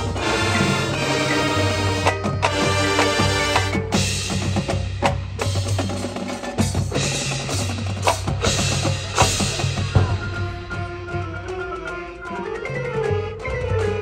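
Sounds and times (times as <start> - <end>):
marching band drums: 0.0 - 14.0.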